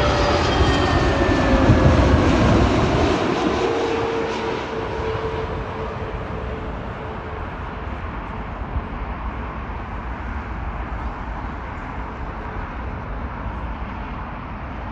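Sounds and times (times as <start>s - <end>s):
jet engine whine: 0.0s - 14.9s.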